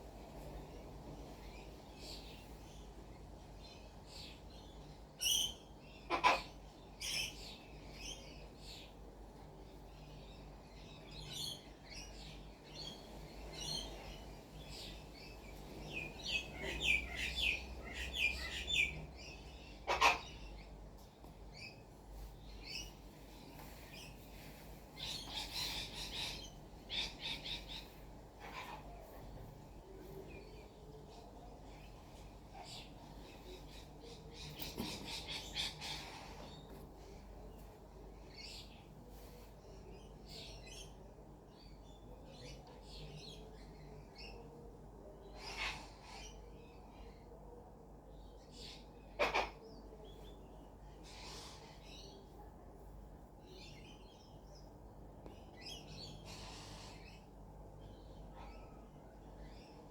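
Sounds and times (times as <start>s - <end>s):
birds chirping: 0.0s - 47.3s, 53.3s - 59.9s.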